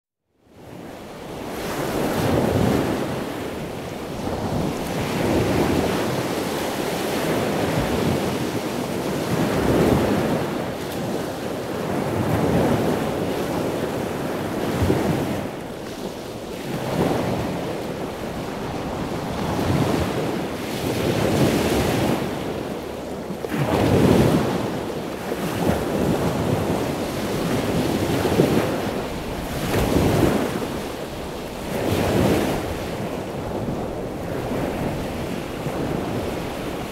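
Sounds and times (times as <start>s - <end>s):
rushing water like waves: 0.4s - 36.9s.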